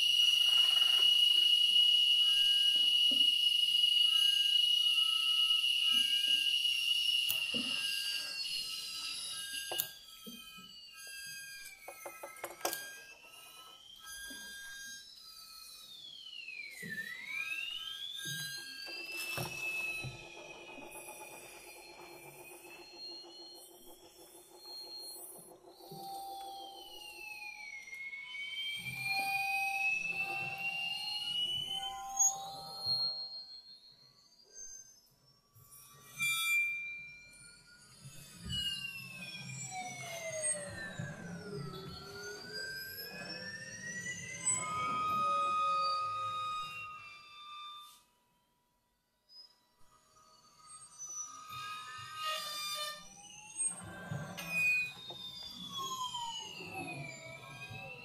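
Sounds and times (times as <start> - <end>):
high whistling electronic tone: 0.0 - 58.0.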